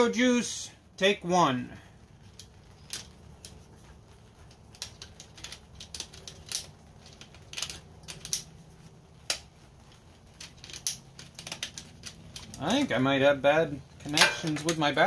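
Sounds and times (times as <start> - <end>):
sharp clicks and clatters: 2.0 - 15.0.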